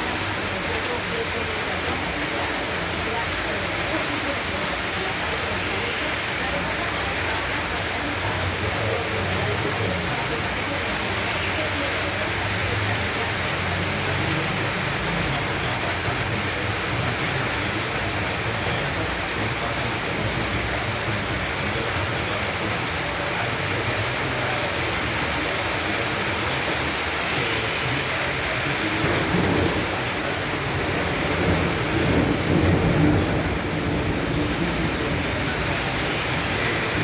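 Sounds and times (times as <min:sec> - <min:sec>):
heavy rain hiss: 0:00.0 - 0:37.0.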